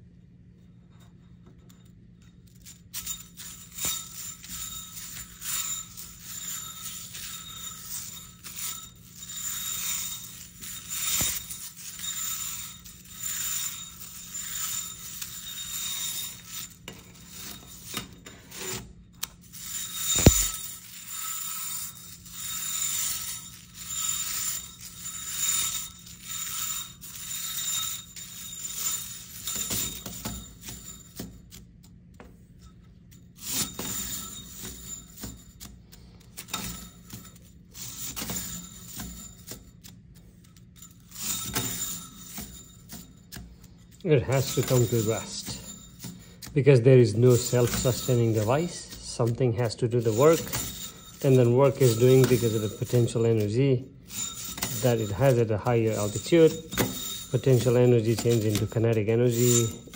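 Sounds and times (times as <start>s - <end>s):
metal spring coils clinking: 1.5s - 59.9s.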